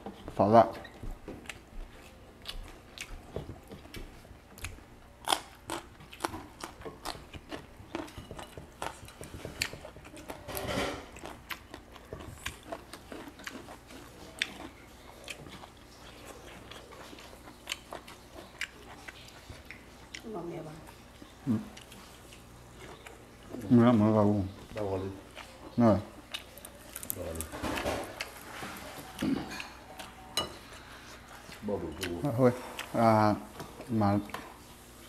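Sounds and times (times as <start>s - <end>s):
people chewing and crunching food: 0.0s - 35.0s.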